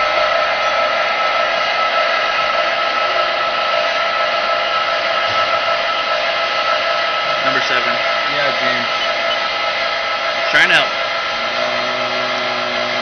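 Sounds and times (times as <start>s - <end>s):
milling machine whirring: 0.0s - 13.0s.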